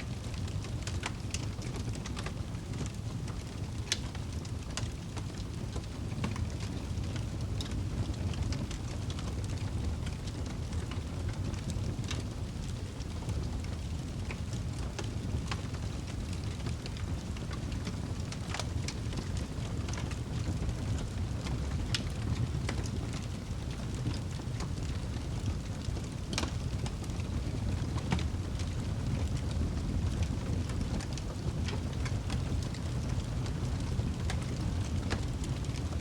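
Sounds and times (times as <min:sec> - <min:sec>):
fire flames rumbling: 0:00.0 - 0:36.0
logs crackling and popping: 0:00.1 - 0:36.0.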